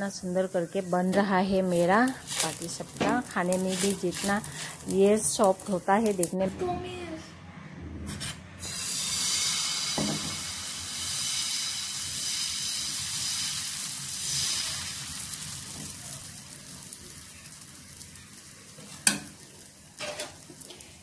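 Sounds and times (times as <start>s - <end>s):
batter sizzling on hot pan: 0.0s - 6.4s, 8.6s - 21.0s.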